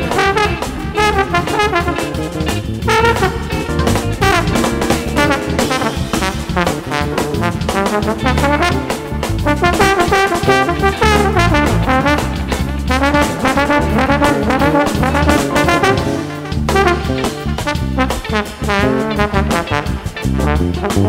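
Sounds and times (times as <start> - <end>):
jazz rhythm section: 0.0 - 21.0
trombone solo: 0.0 - 21.0.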